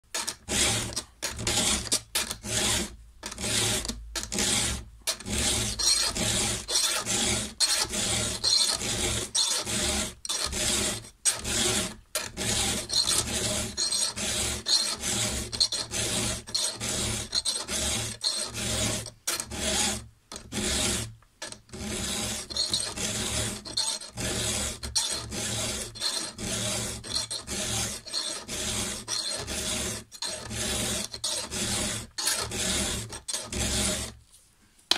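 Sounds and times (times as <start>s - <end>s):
file rasping on saw chain: 0.1s - 34.2s.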